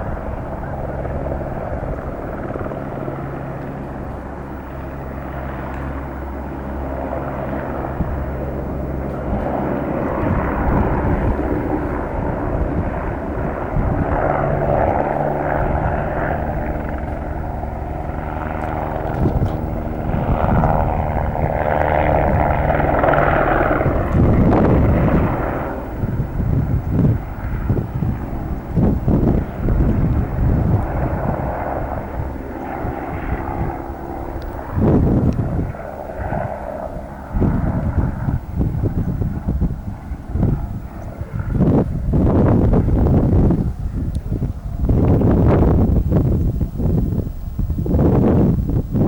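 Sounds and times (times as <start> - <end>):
helicopter rotor and engine drone: 0.0 - 49.0.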